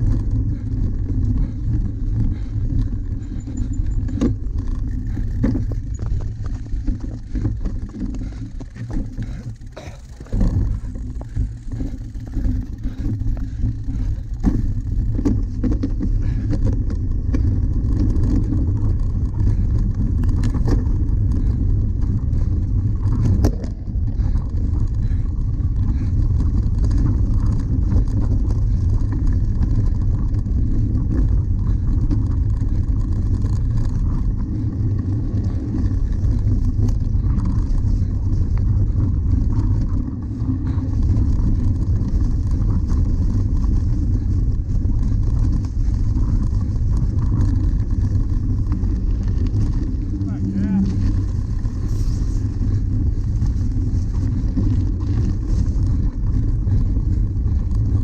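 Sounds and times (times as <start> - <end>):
bike clattering over bumps: 0.0 - 58.0
bike tyres rolling over grass: 0.0 - 58.0
wind rumble on microphone: 0.0 - 58.0.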